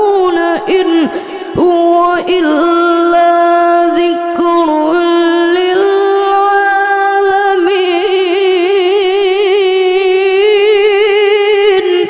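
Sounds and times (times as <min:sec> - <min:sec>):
boy reciting melodically: 0:00.0 - 0:12.0.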